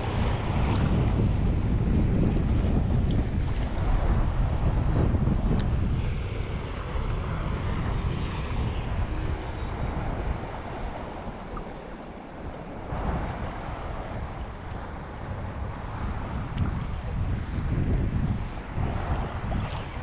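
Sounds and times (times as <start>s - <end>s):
small sea waves: 0.0s - 20.0s
wind buffeting microphone: 0.0s - 20.0s.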